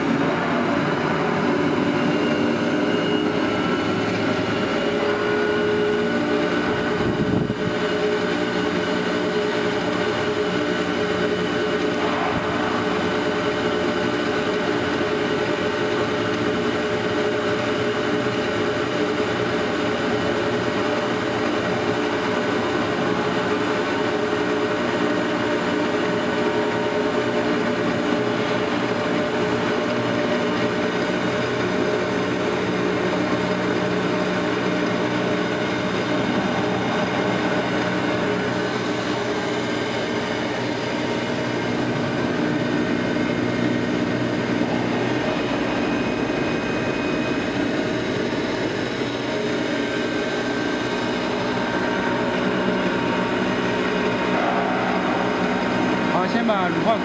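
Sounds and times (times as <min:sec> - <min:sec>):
mixer machine drone: 0:00.0 - 0:57.0.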